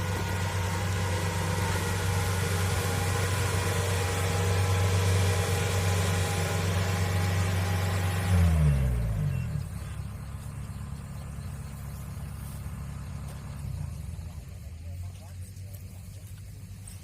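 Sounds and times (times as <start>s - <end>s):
diesel engine running then idling: 0.0s - 17.0s.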